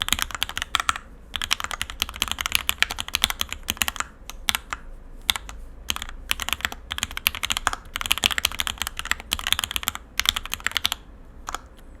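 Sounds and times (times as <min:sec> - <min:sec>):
typing on mechanical keyboard: 0:00.0 - 0:11.8.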